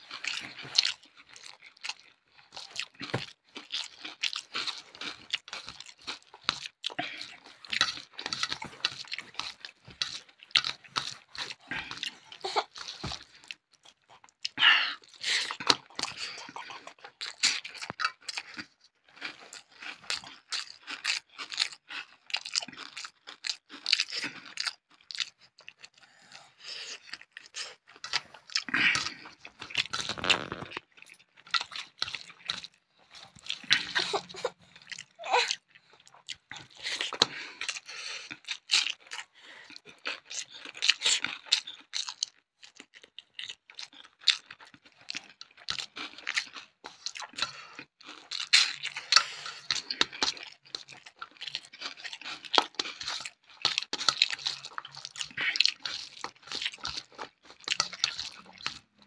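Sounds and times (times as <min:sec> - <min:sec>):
person chewing and crunching food: 0:00.0 - 0:59.0.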